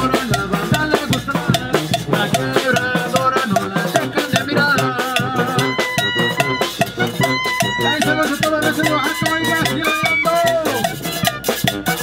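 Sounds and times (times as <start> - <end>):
brass band playing: 0.0 - 12.0
sousaphone bass: 0.0 - 12.0.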